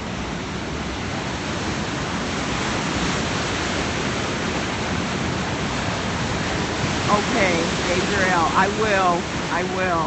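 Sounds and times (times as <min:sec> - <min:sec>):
ocean surf rushing: 0:00.0 - 0:10.0.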